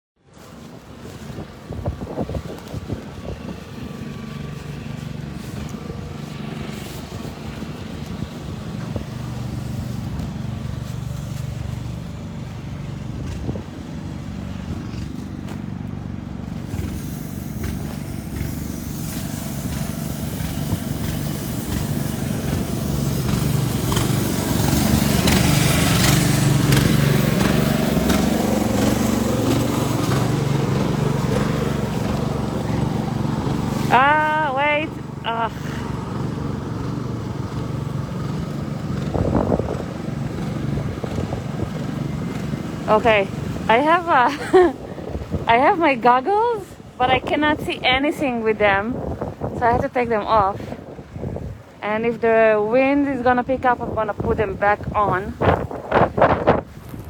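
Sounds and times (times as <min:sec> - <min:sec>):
storm wind buffeting microphone: 0:00.4 - 0:15.4, 0:16.3 - 0:57.0
low steady rumble: 0:00.7 - 0:57.0.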